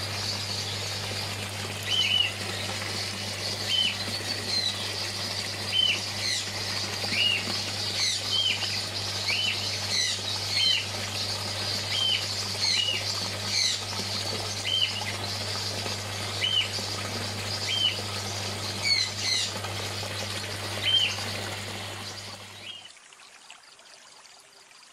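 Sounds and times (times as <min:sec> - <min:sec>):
steady low hum: 0:00.0 - 0:22.7
birds chirping: 0:00.0 - 0:22.9.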